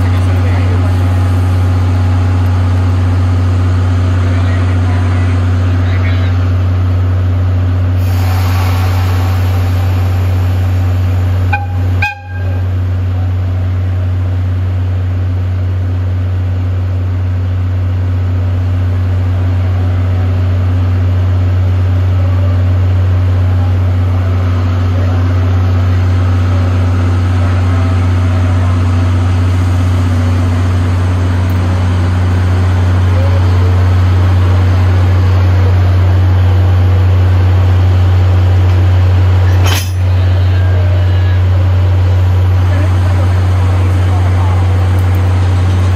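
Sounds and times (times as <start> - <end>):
diesel locomotive engine humming: 0.0 - 45.9.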